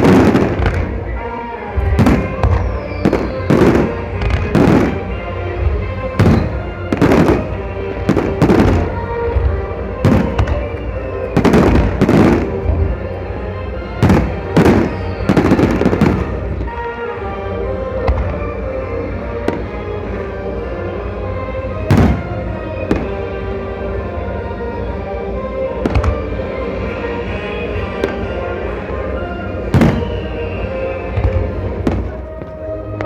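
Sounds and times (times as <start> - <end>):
fireworks bursting: 0.0 - 23.6, 24.2 - 33.0
music: 0.0 - 33.0.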